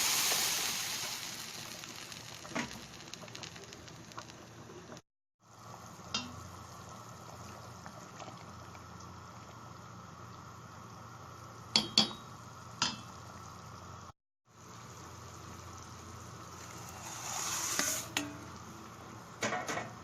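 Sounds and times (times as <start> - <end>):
sauce bubbling in a pan: 0.0 - 19.4.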